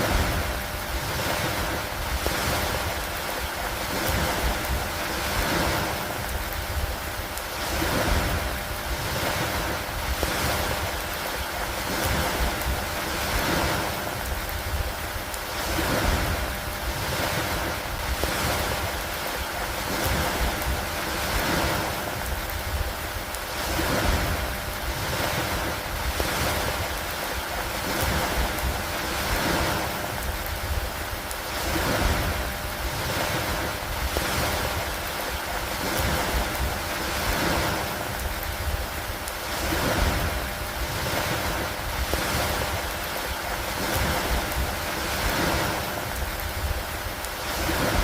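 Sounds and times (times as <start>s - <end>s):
lake water lapping: 0.0s - 48.0s
steady rain: 0.0s - 48.0s
wind: 0.0s - 48.0s.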